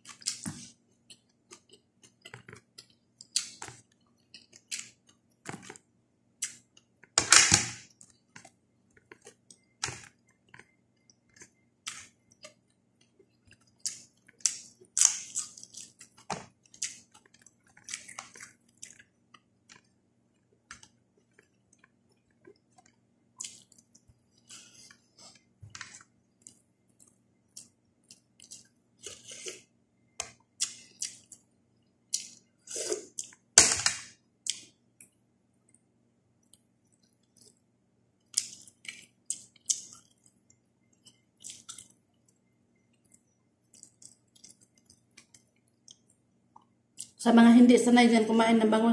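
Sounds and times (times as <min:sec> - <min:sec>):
person chewing: 0:00.0 - 0:05.8, 0:06.4 - 0:07.2, 0:07.9 - 0:31.4, 0:32.1 - 0:33.4, 0:36.4 - 0:37.6, 0:38.2 - 0:47.2.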